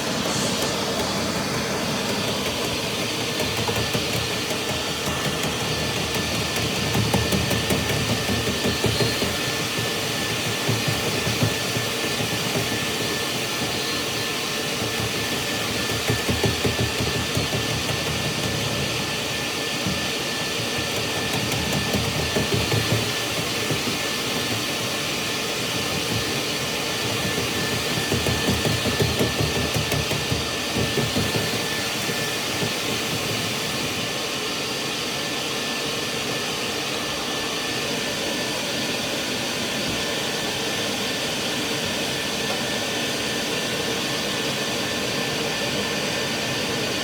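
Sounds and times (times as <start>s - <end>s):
vacuum running: 0.0s - 47.0s.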